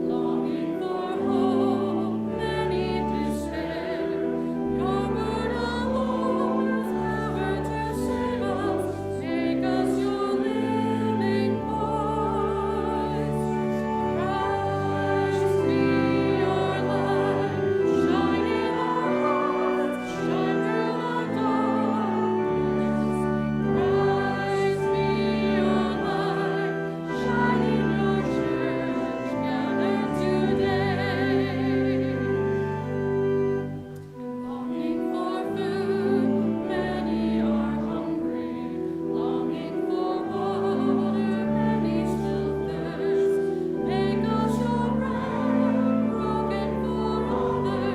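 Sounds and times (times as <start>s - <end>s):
choir singing a hymn: 0.0s - 47.9s
sustained instrumental accompaniment: 0.0s - 47.9s.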